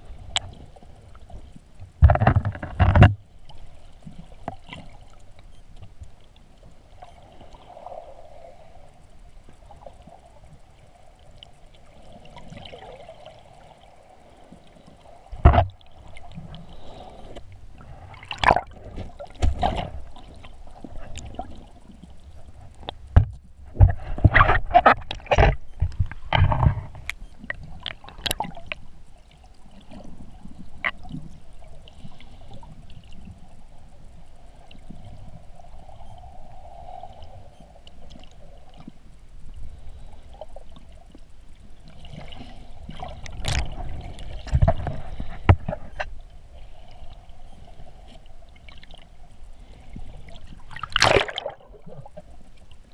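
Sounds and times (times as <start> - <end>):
muffled underwater hum: 0.0 - 52.9.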